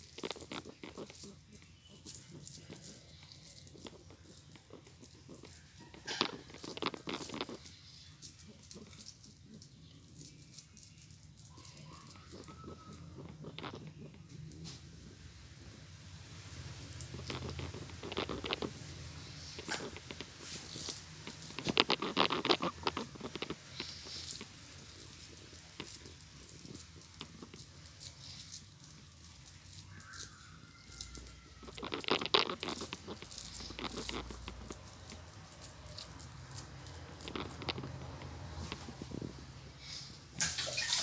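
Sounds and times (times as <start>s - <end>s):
hands squishing minced meat: 0.0s - 41.0s.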